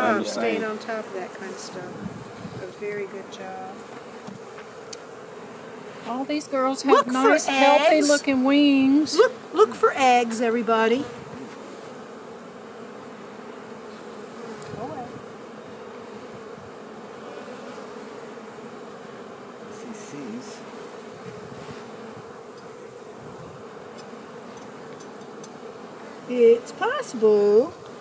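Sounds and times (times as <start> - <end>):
honey bees buzzing: 0.0 - 28.0.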